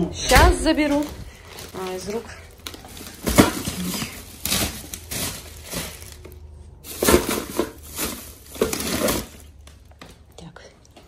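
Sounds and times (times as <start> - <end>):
shopping bags rustling and knocking: 0.2 - 10.3.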